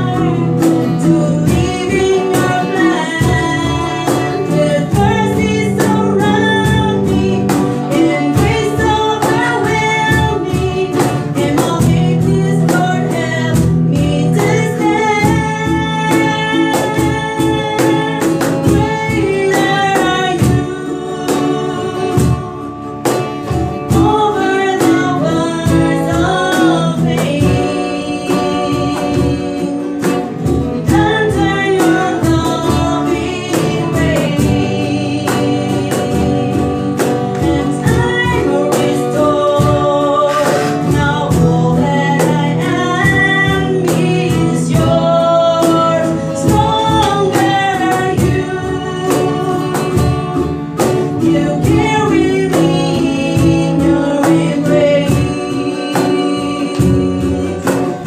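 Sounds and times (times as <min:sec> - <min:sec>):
acoustic guitar: 0:00.0 - 0:58.0
beatboxed percussion: 0:00.0 - 0:58.0
women singing gospel song: 0:00.0 - 0:58.0.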